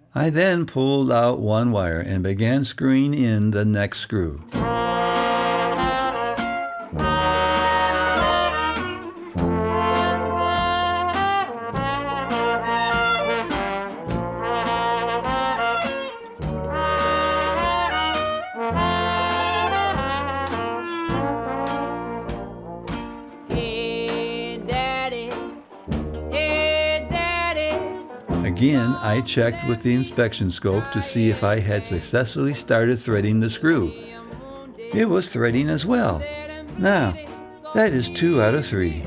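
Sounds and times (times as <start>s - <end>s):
brass music over bass line: 4.5s - 39.0s.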